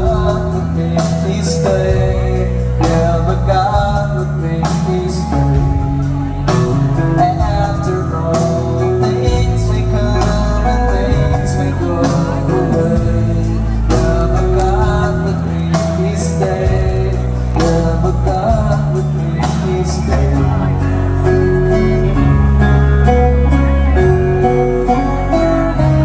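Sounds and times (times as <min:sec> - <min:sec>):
drum and cymbal hits: 0:00.0 - 0:23.2
bass notes: 0:00.0 - 0:26.0
man singing lead vocal: 0:00.0 - 0:26.0.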